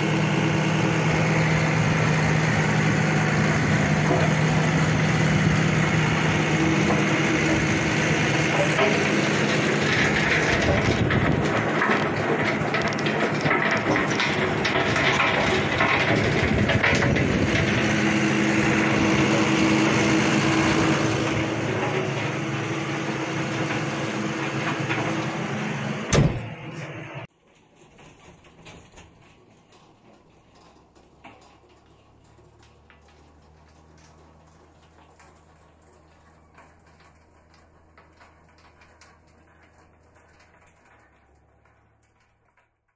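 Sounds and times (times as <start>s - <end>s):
distant tractor hum: 0.0s - 42.8s
tractor diesel engine under load: 0.0s - 42.9s.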